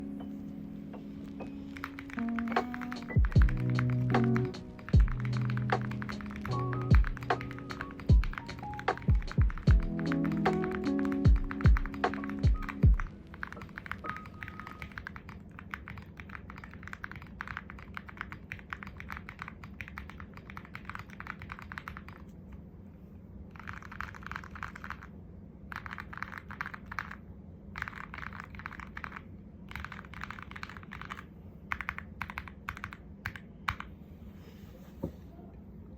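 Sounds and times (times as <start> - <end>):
mechanical keyboard typing: 1.7 - 22.3, 23.6 - 25.1, 25.7 - 27.2, 27.8 - 33.9.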